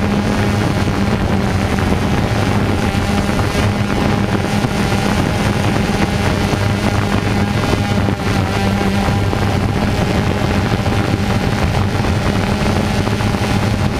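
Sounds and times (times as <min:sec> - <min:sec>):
drone motors humming: 0:00.0 - 0:13.9
wind rushing over microphone: 0:00.0 - 0:13.9.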